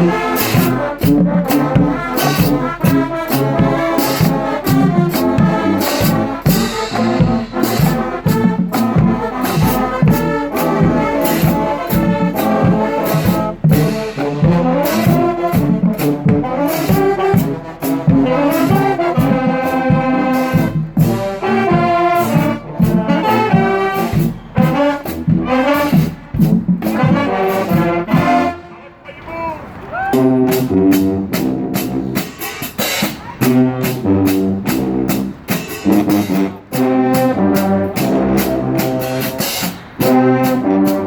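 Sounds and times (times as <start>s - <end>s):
steady drum beat: 0.0s - 28.6s, 30.2s - 41.0s
brass playing: 0.0s - 41.0s.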